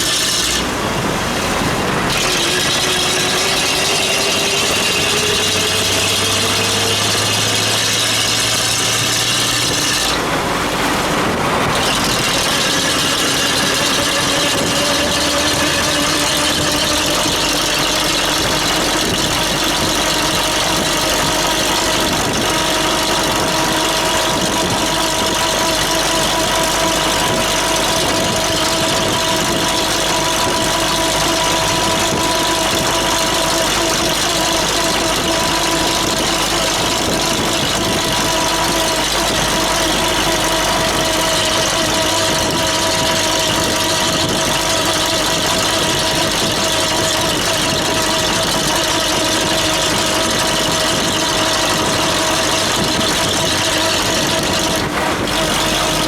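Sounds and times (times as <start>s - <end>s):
car engines running: 0.0s - 56.0s.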